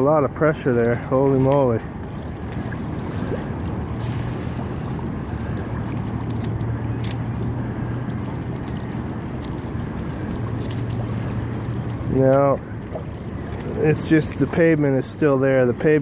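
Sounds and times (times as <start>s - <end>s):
steady low hum: 0.0s - 14.5s
floodwater surging and churning: 0.0s - 16.0s.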